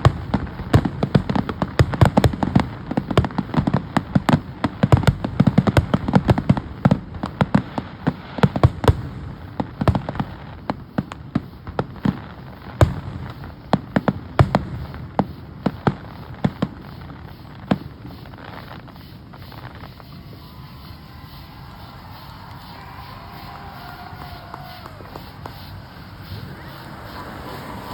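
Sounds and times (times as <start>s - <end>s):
fireworks popping and banging: 0.0s - 27.9s.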